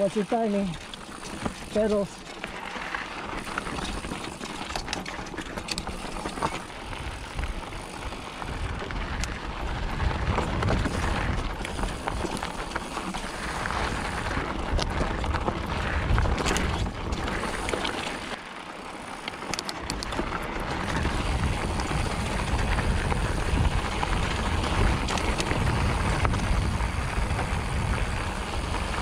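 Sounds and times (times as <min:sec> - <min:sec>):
bike clicks and rattles: 0:00.0 - 0:29.0
mountain bike tyres on dirt trail: 0:00.0 - 0:29.0.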